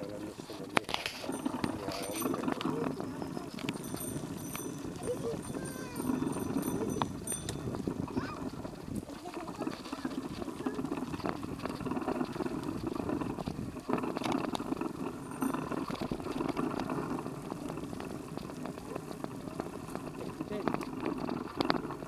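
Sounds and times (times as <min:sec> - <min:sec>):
bicycle tyres on gravel: 0:00.0 - 0:22.0
bike rattling and clicking: 0:00.0 - 0:22.0.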